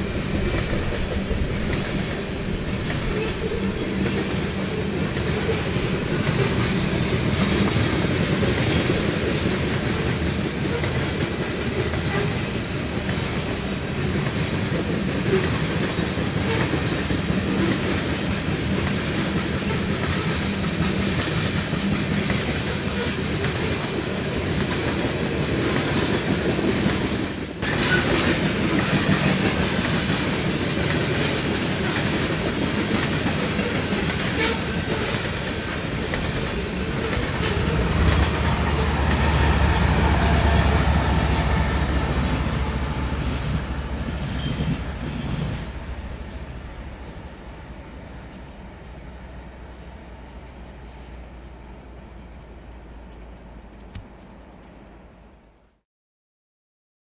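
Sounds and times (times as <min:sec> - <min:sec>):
wheels clacking over rail joints: 0:00.0 - 0:51.1
freight train rolling past: 0:00.0 - 0:55.6
diesel locomotive drone: 0:00.0 - 0:55.8.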